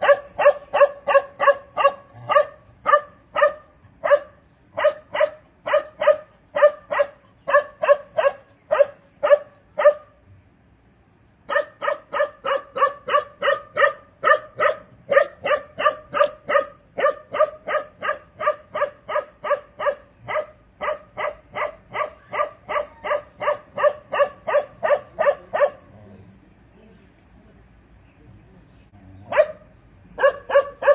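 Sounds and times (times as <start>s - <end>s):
dog barking: 0.0s - 10.1s, 11.5s - 25.9s, 29.3s - 30.9s.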